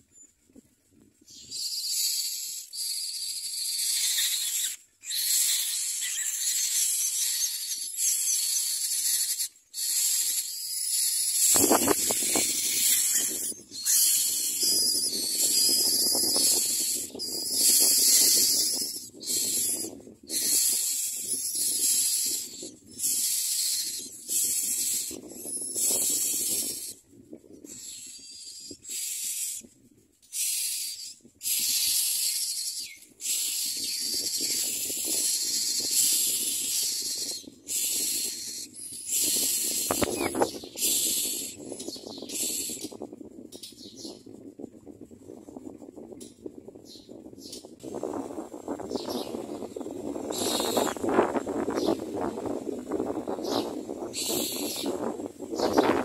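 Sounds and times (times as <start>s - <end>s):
nestlings begging with hissing calls: 1.3s - 27.0s, 27.7s - 29.7s, 30.3s - 42.9s, 48.8s - 56.0s.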